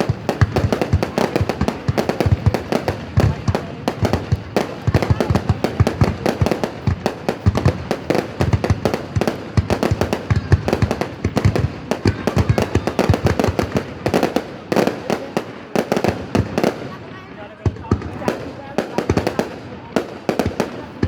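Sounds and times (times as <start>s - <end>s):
fireworks bangs and cracks: 0.0s - 21.0s.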